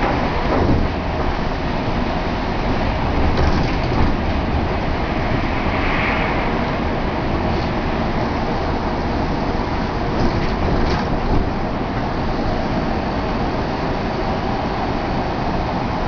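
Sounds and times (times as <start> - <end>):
vehicles rumbling: 0.0 - 16.0.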